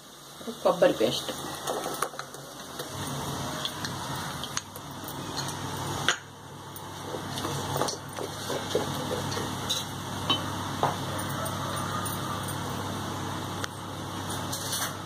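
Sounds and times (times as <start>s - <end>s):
onions sizzling and crackling: 0.0s - 15.0s.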